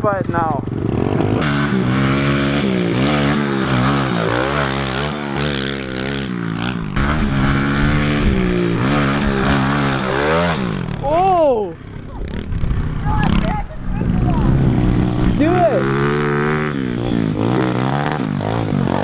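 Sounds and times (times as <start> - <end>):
pit bike engine revving: 0.0 - 19.0.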